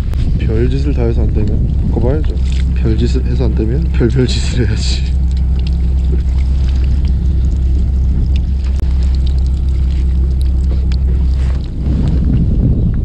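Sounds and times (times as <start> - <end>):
boat engine idling: 0.0 - 13.0
wind buffeting microphone: 0.0 - 13.0.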